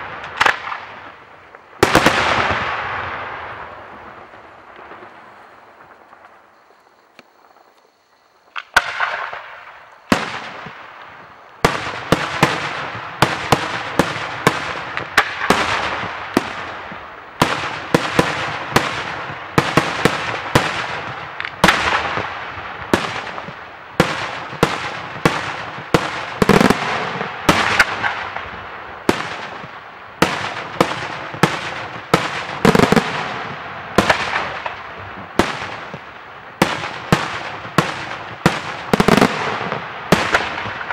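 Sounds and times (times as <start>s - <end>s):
fireworks bangs echoing: 0.0s - 6.5s, 8.5s - 40.9s.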